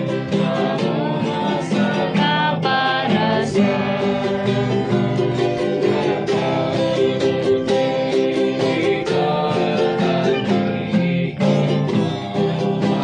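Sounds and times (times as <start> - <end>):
person singing: 0.0 - 13.0
plucked acoustic guitar: 0.0 - 13.0.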